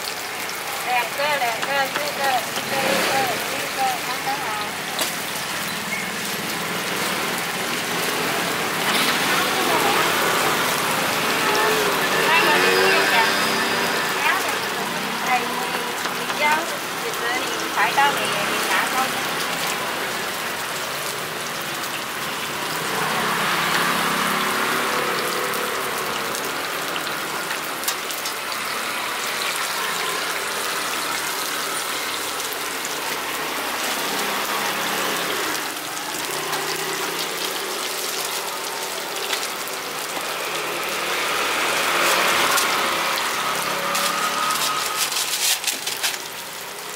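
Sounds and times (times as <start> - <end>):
food sizzling in hot oil: 0.0 - 46.9.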